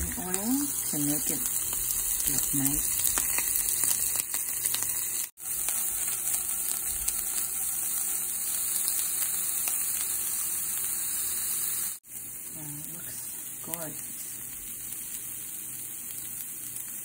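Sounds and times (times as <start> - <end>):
shrimp sizzling in a pan: 0.0 - 17.0.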